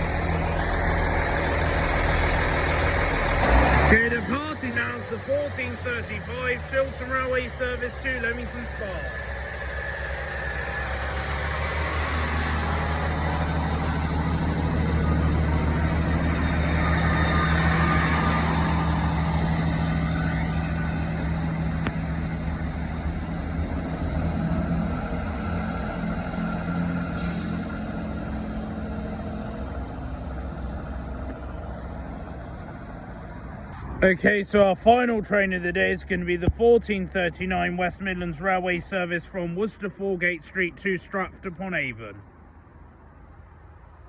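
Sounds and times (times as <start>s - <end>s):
diesel train engines droning: 0.0s - 44.0s.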